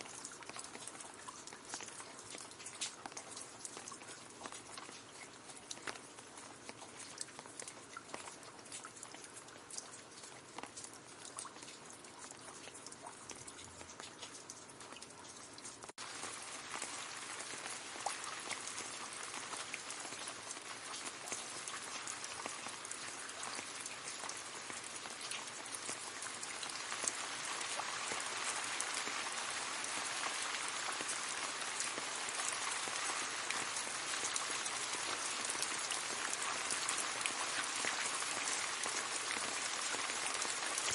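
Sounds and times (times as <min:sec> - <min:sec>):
rain pattering on leaves: 0:00.0 - 0:40.9.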